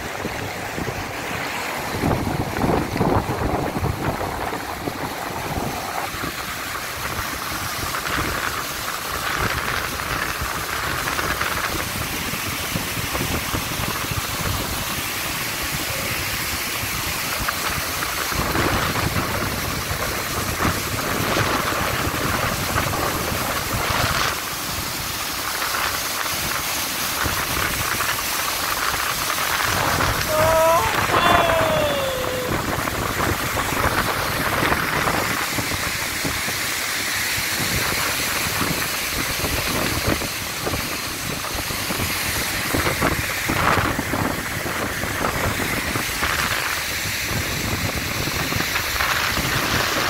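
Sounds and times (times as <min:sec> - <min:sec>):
stream rushing over rocks: 0:00.0 - 0:50.0.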